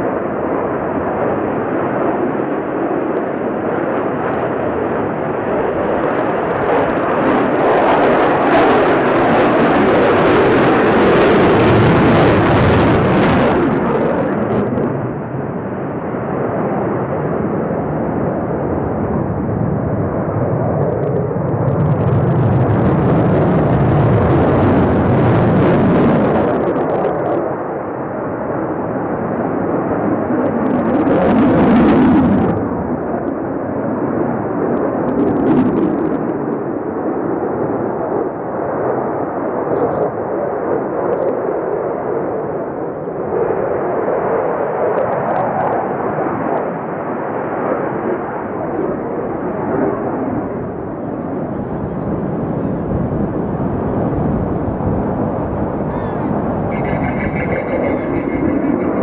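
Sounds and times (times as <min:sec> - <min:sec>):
fighter jet engine noise: 0:00.0 - 0:59.0.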